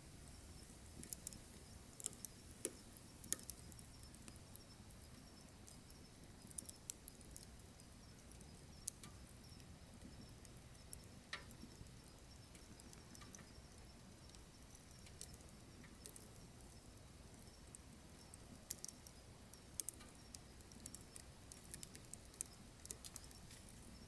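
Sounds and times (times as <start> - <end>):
firewood crackling and popping: 0.0 - 24.0.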